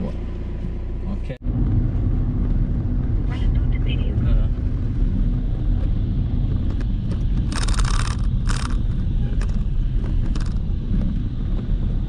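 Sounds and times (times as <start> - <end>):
vehicle rumbling along road: 0.0 - 12.0.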